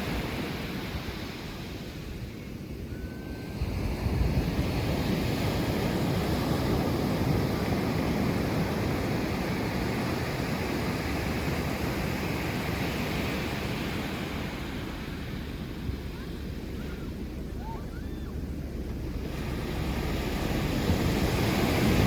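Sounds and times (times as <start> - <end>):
ocean waves breaking: 3.2 - 22.0.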